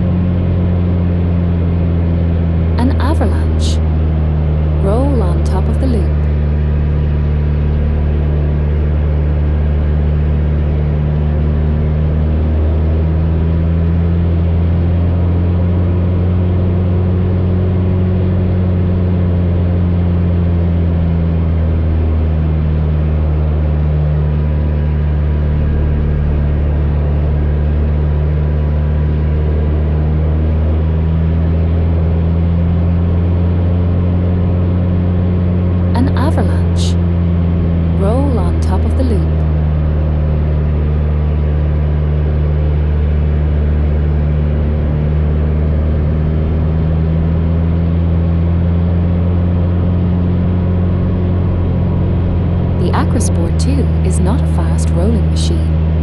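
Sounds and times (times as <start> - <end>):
propeller plane engine running: 0.0 - 56.0.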